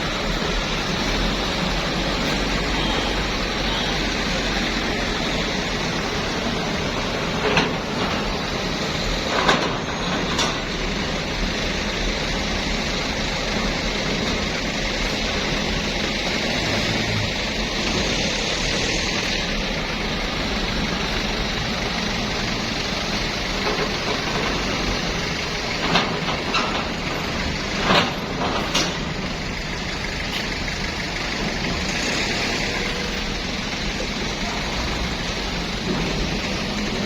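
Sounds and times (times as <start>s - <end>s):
bus engine running: 0.0s - 37.0s.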